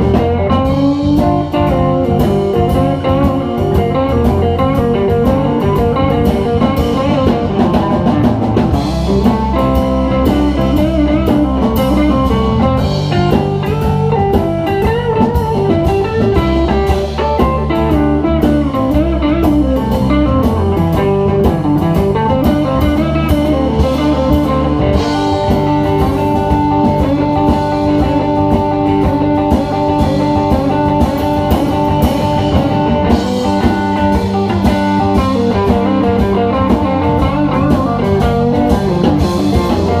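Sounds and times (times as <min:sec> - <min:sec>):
blues-rock band playing: 0:00.0 - 0:40.0
lead guitar: 0:00.0 - 0:40.0.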